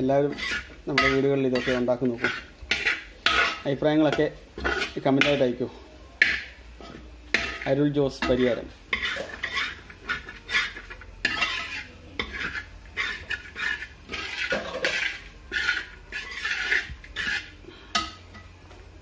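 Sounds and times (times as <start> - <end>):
metal spoon scraping a pan: 0.0 - 5.6, 6.2 - 18.6.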